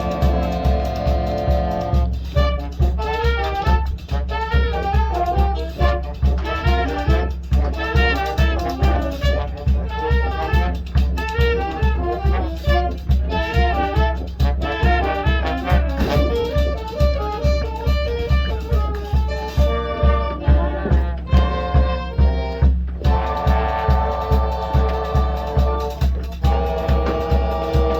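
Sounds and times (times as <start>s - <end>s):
marching band playing: 0.0s - 27.9s.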